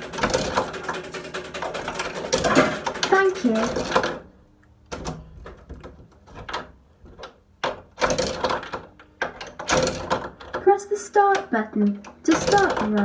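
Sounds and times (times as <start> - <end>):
knocks and rattles of handling: 0.0 - 13.0.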